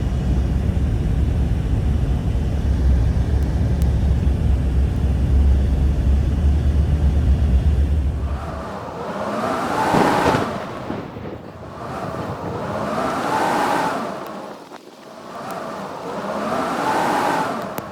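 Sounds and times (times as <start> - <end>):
blizzard wind roaring: 0.0 - 17.9.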